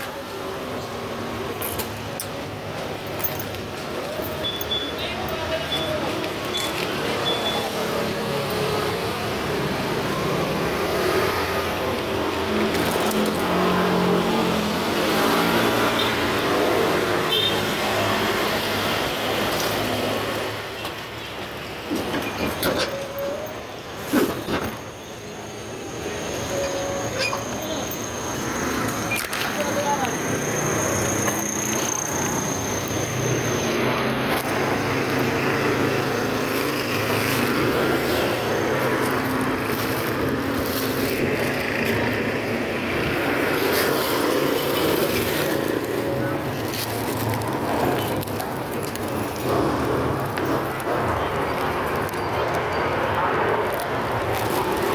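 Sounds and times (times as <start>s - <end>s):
road and traffic noise: 0.0s - 54.9s.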